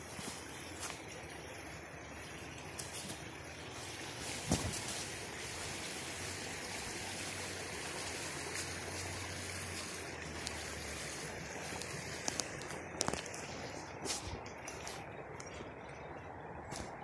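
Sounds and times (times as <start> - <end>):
river flowing over stones: 0.0 - 17.0.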